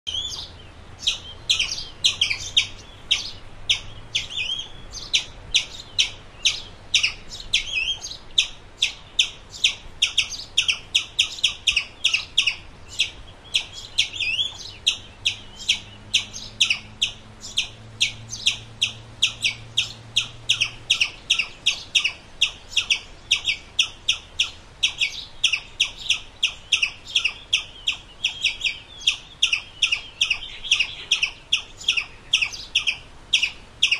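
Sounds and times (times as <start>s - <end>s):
squirrel chirping: 0.1s - 33.9s.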